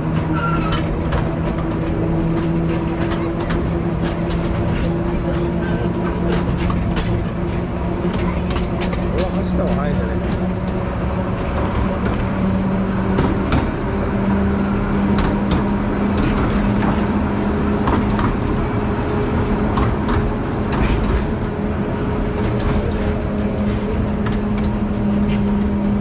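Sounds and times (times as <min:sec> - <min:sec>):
train rumbling: 0:00.0 - 0:26.0
wheels clicking on rails: 0:00.0 - 0:26.0.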